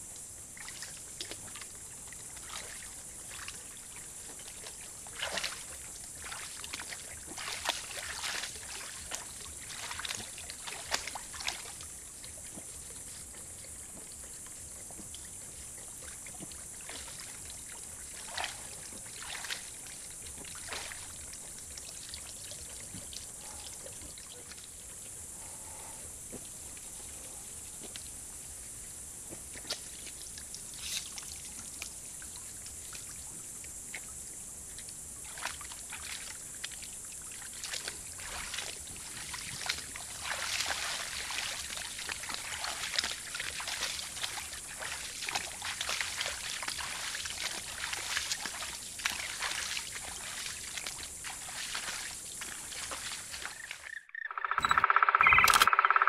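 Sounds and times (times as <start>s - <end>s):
water splashing and sloshing: 0.0s - 54.1s.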